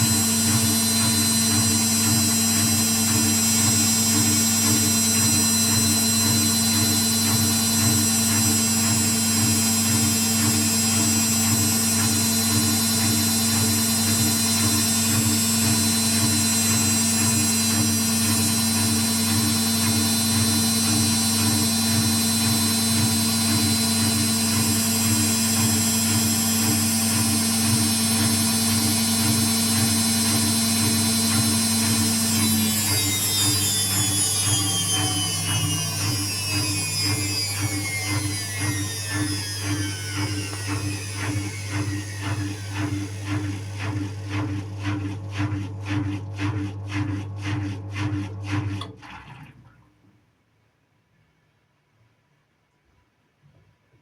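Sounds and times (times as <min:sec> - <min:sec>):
washing machine spinning: 0:00.0 - 0:49.5.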